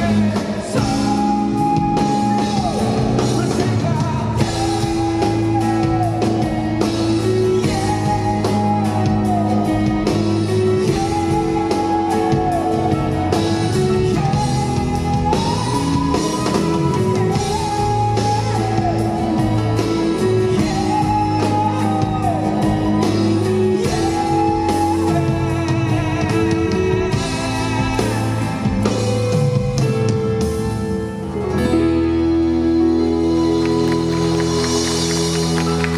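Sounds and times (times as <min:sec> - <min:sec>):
man singing long held notes: 0:00.0 - 0:29.9, 0:32.0 - 0:35.9
acoustic guitar chords: 0:00.0 - 0:35.9.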